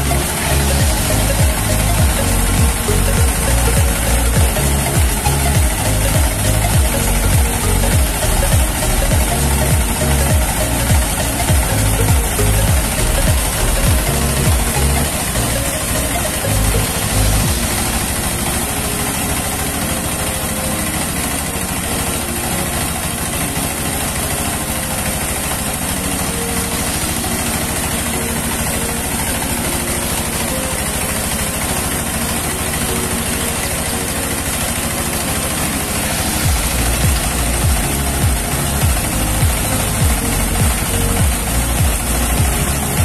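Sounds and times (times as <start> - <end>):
rice milling machine running: 0.0 - 43.0.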